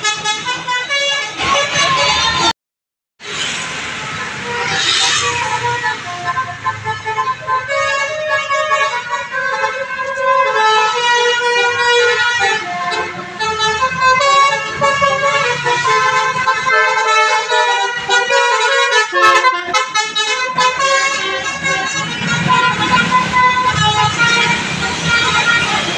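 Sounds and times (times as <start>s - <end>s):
multi-tone air horn melody: 0.0s - 2.5s, 4.0s - 25.9s.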